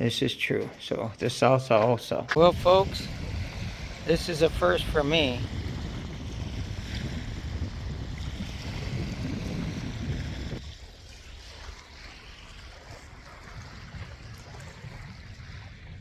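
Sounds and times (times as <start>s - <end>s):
soft steady wind rush: 2.3s - 16.0s
wind buffeting microphone: 2.3s - 16.0s.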